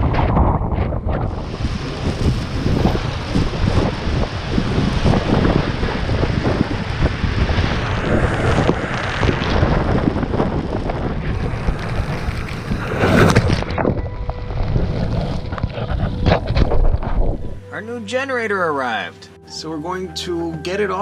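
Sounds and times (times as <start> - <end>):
wind buffeting microphone: 0.0 - 17.7.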